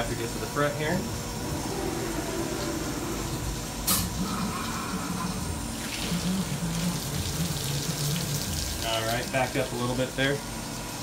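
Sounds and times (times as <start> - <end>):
coolant running and draining: 0.0 - 11.0
low machine hum: 0.0 - 11.0.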